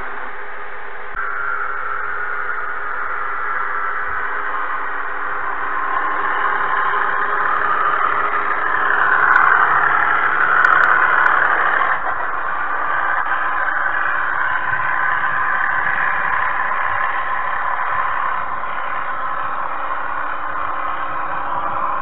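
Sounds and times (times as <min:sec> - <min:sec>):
model train motor whirring: 0:03.6 - 0:22.0.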